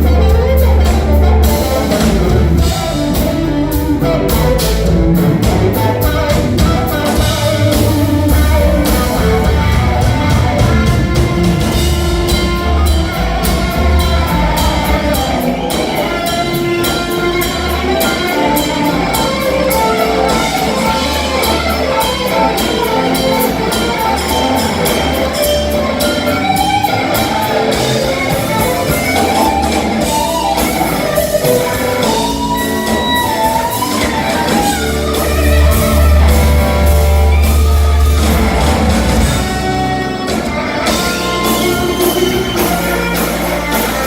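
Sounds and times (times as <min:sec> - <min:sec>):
bass: 0:00.0 - 0:44.0
drums: 0:00.0 - 0:44.0
electric guitar: 0:00.0 - 0:44.0
live band music: 0:00.0 - 0:44.0.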